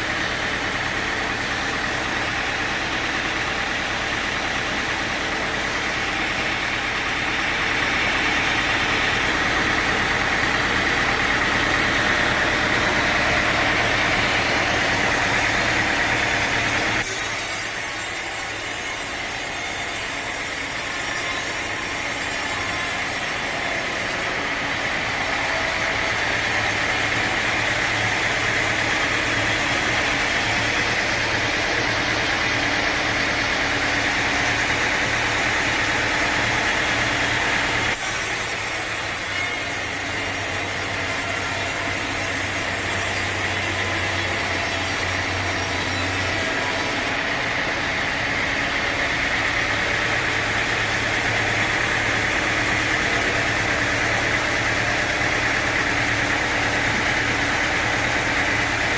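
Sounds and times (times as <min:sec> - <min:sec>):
sawmill saw whine and drone: 0:00.0 - 0:58.9.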